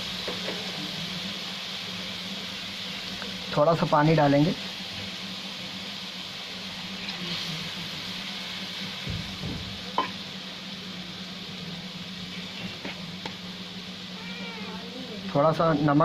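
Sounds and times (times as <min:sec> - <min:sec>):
masala sizzling in oil: 0:00.0 - 0:16.0.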